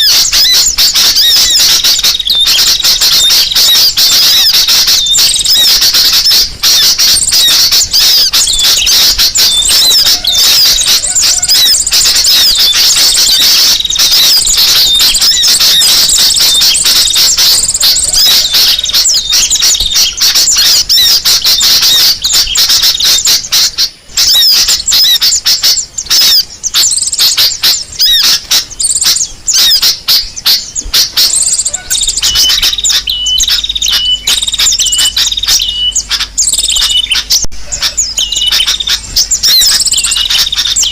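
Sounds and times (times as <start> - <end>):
bulbul calls: 0.0 - 40.9
sunbird calls: 0.0 - 40.9.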